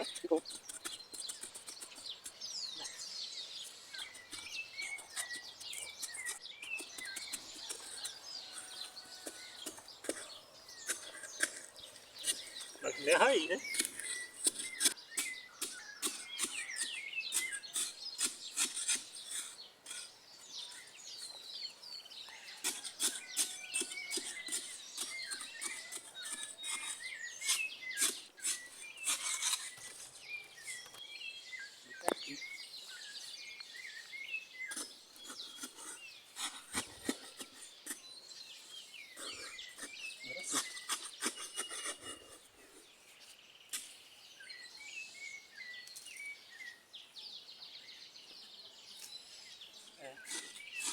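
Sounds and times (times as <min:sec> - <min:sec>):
digging scrapes and knocks in soil: 0:00.0 - 0:46.8, 0:48.9 - 0:50.9
small birds chirping: 0:00.0 - 0:50.9.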